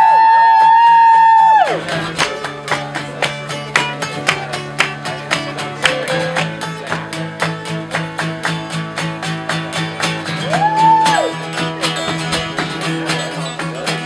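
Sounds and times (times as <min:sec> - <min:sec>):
acoustic guitars strumming: 0:00.0 - 0:14.0.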